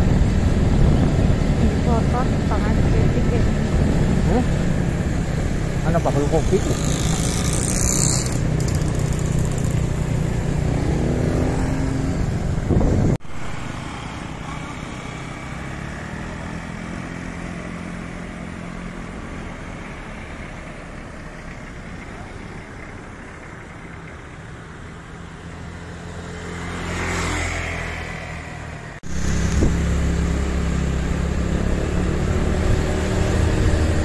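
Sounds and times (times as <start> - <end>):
street traffic noise: 0.0 - 34.0
vehicle engines running close: 0.0 - 34.0.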